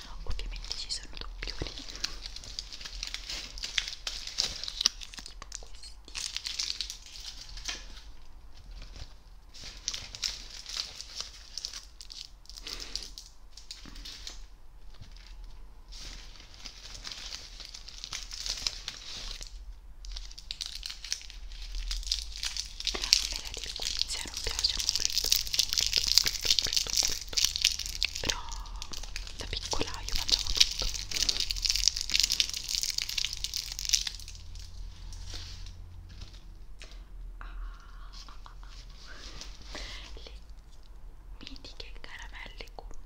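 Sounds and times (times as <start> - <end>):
paper bag crinkling: 0.0 - 37.0
wrapped sweets rustling: 0.0 - 42.9.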